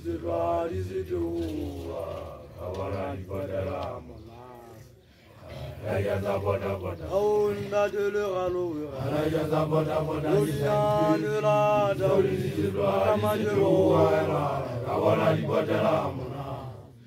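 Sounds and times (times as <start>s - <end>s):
voices chanting held notes: 0.0s - 17.0s.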